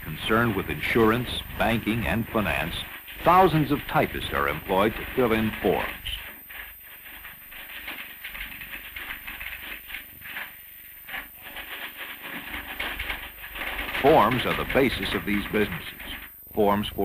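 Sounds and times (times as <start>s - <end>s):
typewriters clattering: 0.0s - 17.0s.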